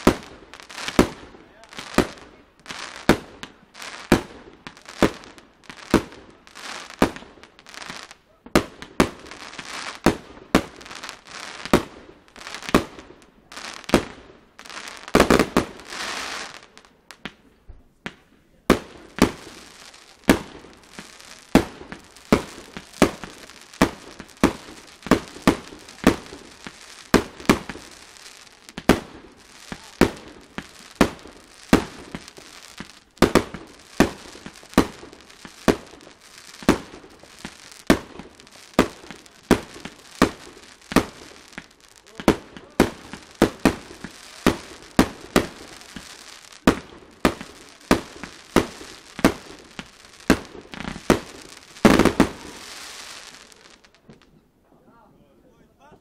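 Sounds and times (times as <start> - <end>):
firework bangs: 0.0 - 54.3
firework crackling: 0.0 - 54.4.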